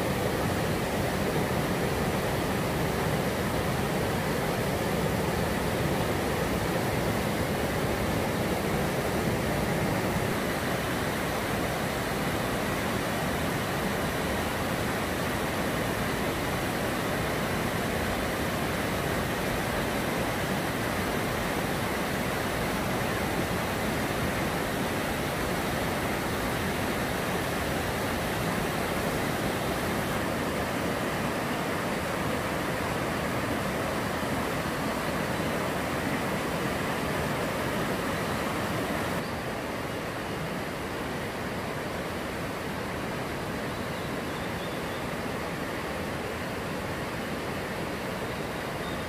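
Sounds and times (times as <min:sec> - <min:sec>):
stream rushing over boulders: 0:00.0 - 0:49.0.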